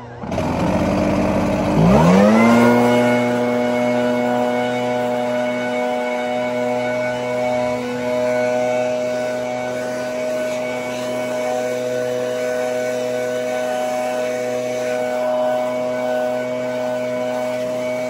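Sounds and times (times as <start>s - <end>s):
leaf blower engine drone: 0.0s - 18.0s.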